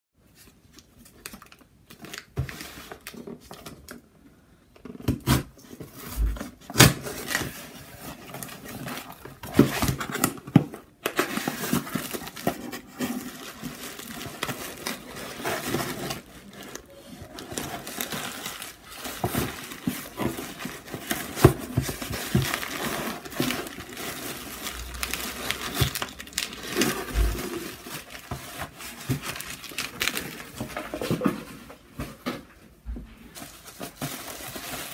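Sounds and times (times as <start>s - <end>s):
bubble wrap and paper rustling: 0.2s - 4.0s, 4.8s - 32.4s, 33.3s - 34.9s.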